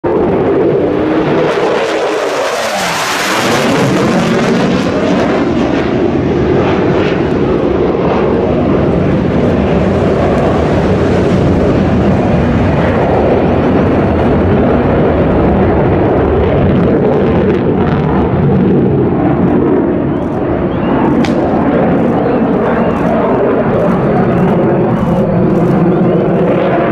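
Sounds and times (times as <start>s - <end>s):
jet engines rumbling overhead: 0.0s - 26.9s.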